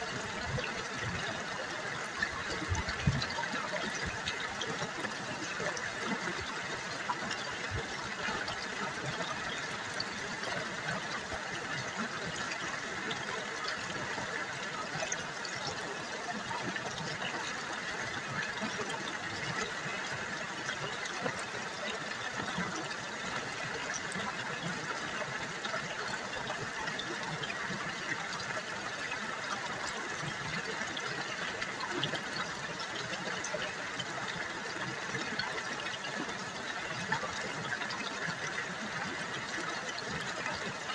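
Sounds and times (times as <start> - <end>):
river water babbling: 0.0 - 40.9.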